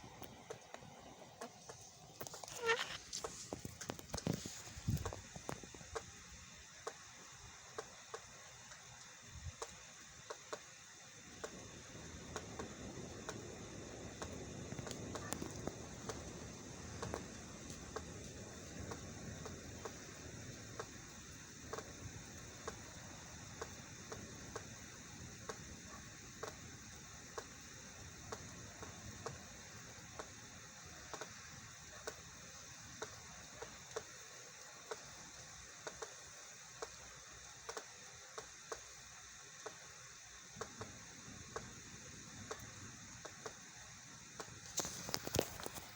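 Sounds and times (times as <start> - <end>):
rain: 0.0 - 45.9
sharp raindrops tapping: 0.1 - 45.9.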